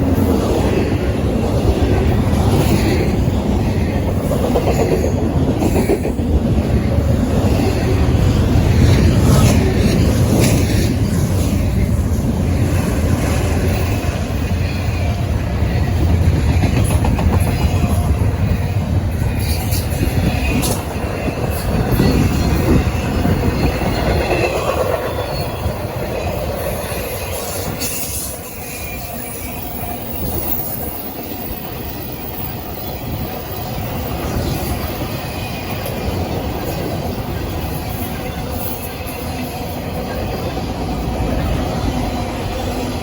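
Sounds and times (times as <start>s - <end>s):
train wheel squeals: 0.0s - 43.0s
train wheels clacking on rails: 0.0s - 43.0s.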